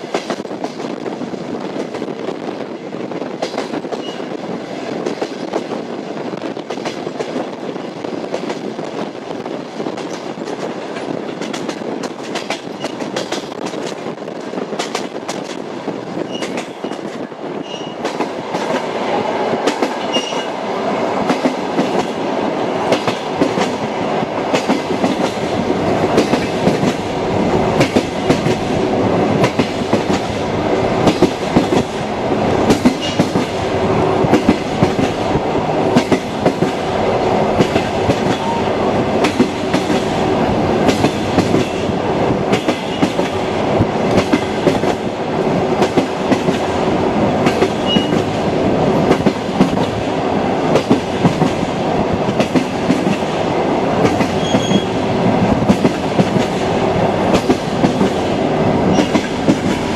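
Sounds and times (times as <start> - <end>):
train wheels clattering over joints: 0.0 - 20.6, 21.2 - 53.4, 54.0 - 59.9
train rumbling: 0.0 - 59.9.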